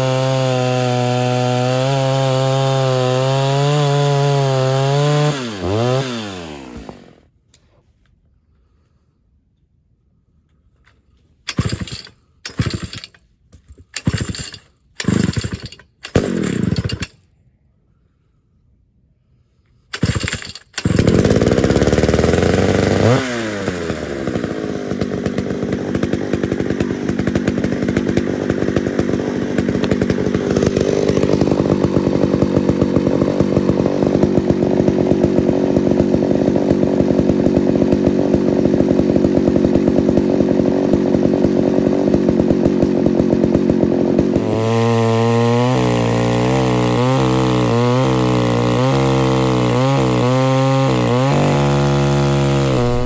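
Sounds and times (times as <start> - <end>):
chainsaw revving and idling: 0.0 - 7.3, 11.4 - 17.3, 19.9 - 53.0
chainsaw cutting into log: 0.0 - 7.4, 11.4 - 17.3, 19.8 - 53.0.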